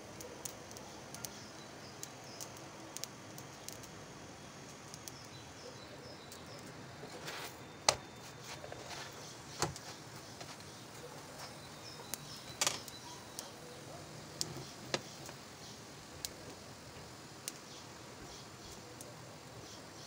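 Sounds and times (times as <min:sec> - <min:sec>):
flatbread crackling in a pan: 0:00.0 - 0:20.0.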